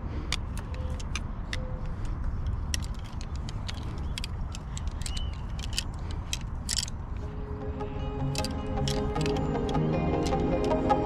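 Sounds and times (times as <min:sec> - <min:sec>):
fishing rods clicking: 0:00.2 - 0:07.4, 0:08.2 - 0:11.0.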